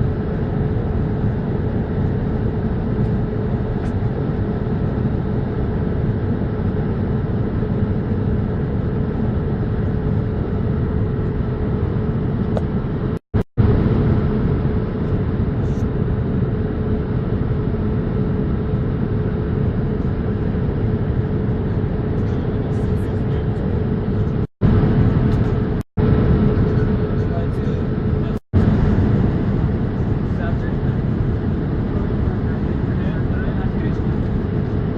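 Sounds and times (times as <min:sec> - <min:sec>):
airliner cabin drone: 0:00.0 - 0:34.9.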